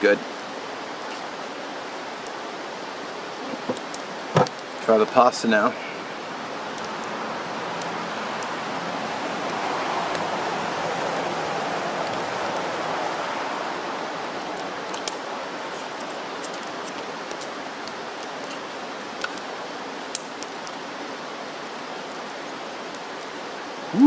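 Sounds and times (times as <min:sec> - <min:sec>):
steady rushing background noise: 0:00.0 - 0:22.4.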